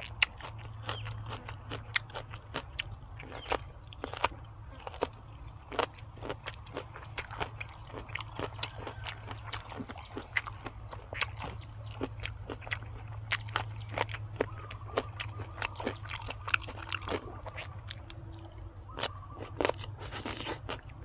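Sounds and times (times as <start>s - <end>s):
chewing and biting food: 0.0s - 21.0s
steady low hum: 0.0s - 21.0s.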